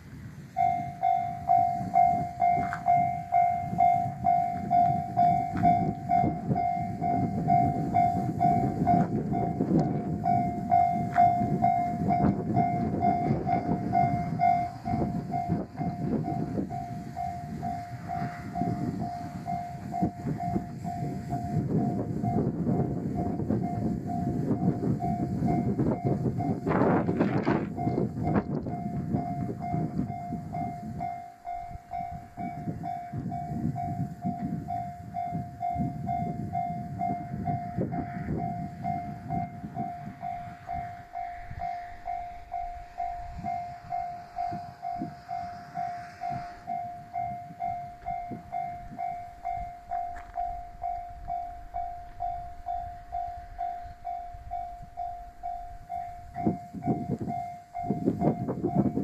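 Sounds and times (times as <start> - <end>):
train rumbling: 0.0 - 59.0
level crossing bell ringing: 0.5 - 26.7, 27.7 - 59.0.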